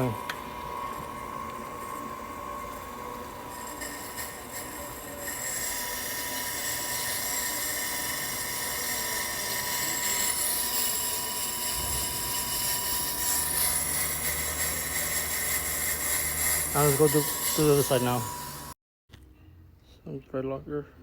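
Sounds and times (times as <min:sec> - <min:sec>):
cutting bit hissing on metal: 0:00.0 - 0:18.8
lathe high whine: 0:00.0 - 0:18.8.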